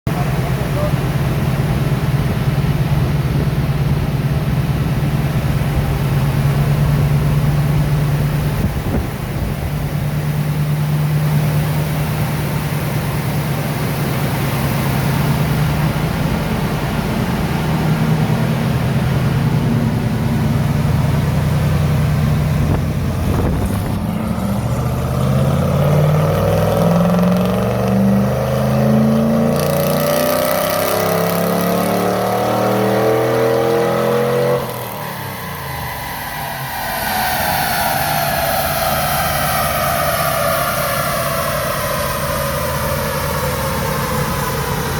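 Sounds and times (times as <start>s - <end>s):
engine idling and revving: 0.0s - 44.9s.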